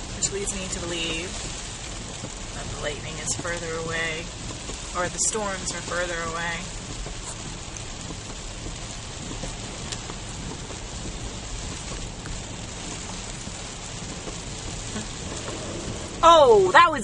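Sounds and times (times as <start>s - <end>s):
road and tyre noise in car: 0.0s - 17.0s.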